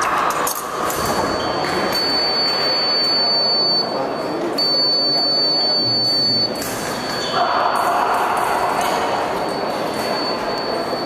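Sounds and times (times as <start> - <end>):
murmur of sports hall crowd: 0.0 - 11.0.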